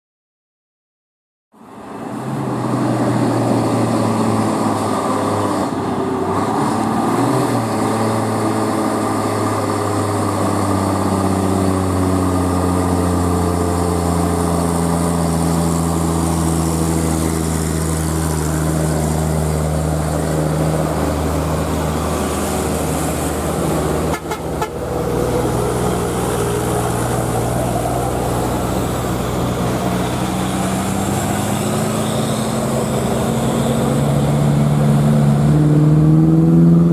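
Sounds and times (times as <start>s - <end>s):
truck diesel engine labouring: 1.6s - 36.9s.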